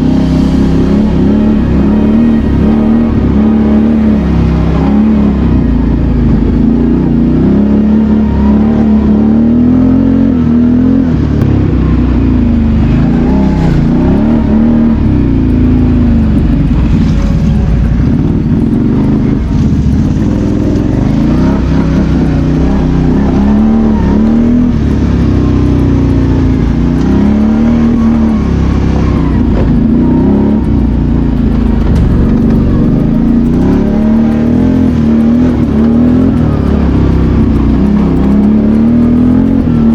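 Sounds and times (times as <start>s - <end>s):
atv engine under load: 0.0s - 39.9s.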